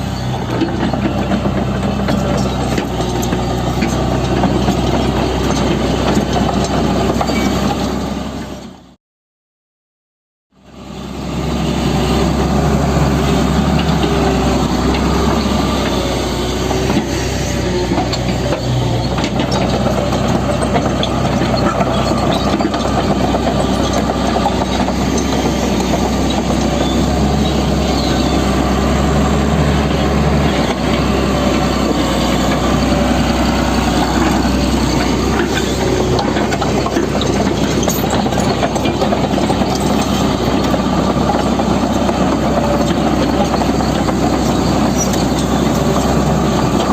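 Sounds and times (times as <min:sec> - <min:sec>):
heavy machinery engine running: 0:00.0 - 0:09.0, 0:10.6 - 0:46.9.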